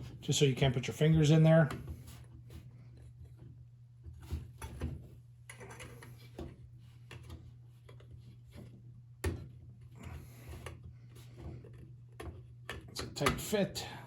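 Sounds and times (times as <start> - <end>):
small clicks and scrapes: 1.7 - 13.0.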